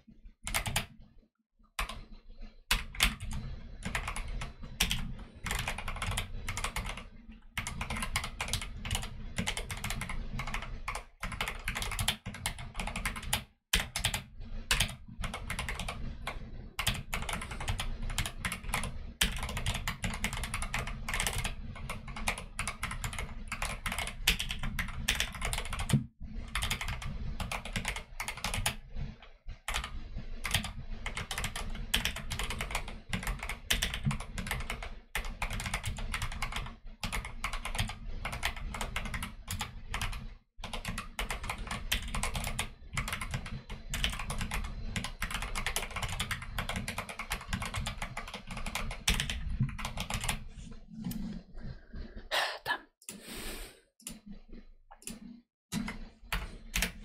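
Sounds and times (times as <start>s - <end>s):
mechanical keyboard typing: 0.4s - 0.9s, 1.8s - 2.0s, 2.7s - 28.8s, 29.7s - 50.5s, 55.0s - 57.0s.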